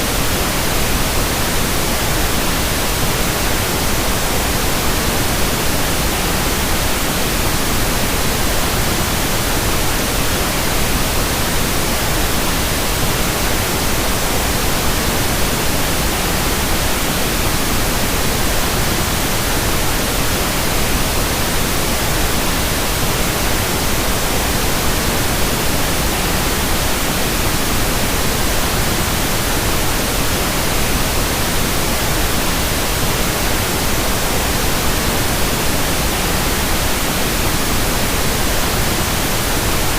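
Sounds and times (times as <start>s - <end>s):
steady synthetic hiss: 0.0s - 39.9s.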